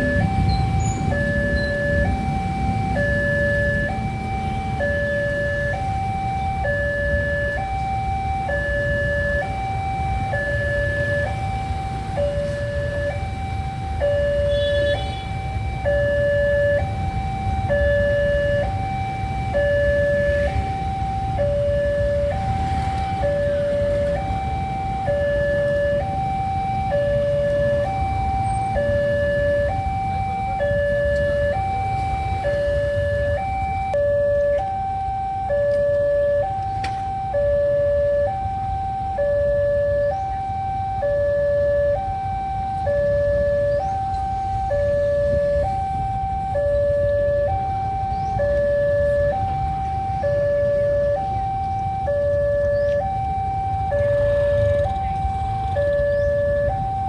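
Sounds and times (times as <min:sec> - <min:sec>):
two-tone level crossing siren: 0:00.0 - 0:57.0.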